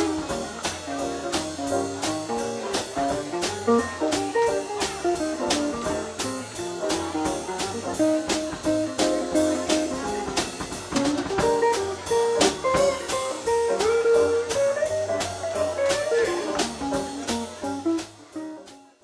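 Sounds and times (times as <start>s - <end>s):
electric guitar melody: 0.0s - 18.9s
drum kit steady beat: 0.0s - 19.0s
upright bass: 0.0s - 19.0s.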